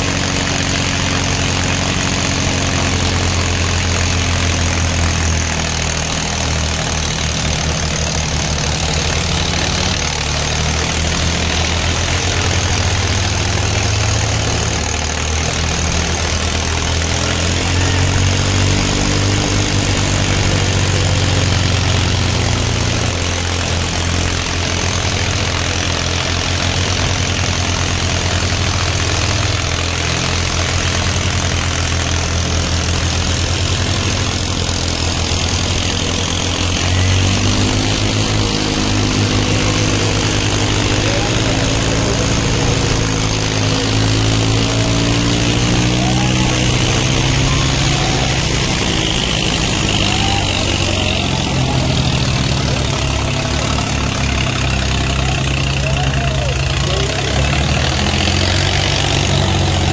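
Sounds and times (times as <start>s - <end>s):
tractor diesel engines under load: 0.0s - 59.9s.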